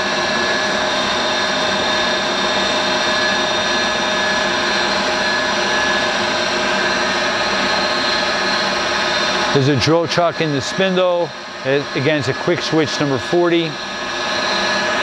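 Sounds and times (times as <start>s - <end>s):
milling machine whine: 0.0s - 15.0s.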